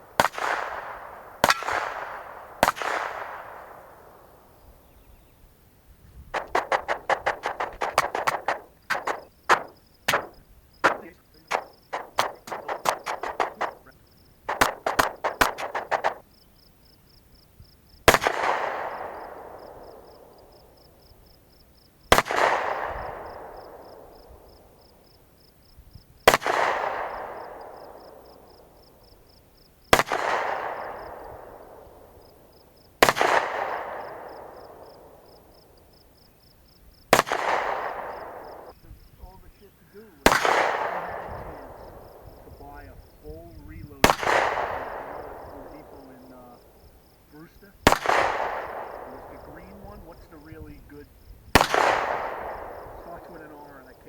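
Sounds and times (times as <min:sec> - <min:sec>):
gunshots with rolling echo: 0:00.0 - 0:05.3, 0:06.0 - 0:16.7, 0:17.8 - 0:54.0.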